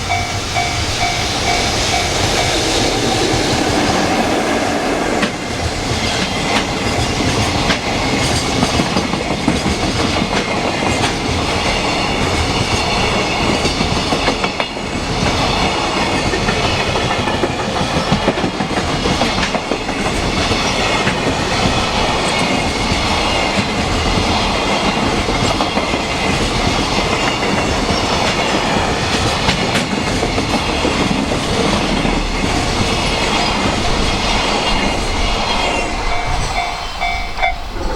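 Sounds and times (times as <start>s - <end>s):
freight train rumbling on rails: 0.0s - 37.9s.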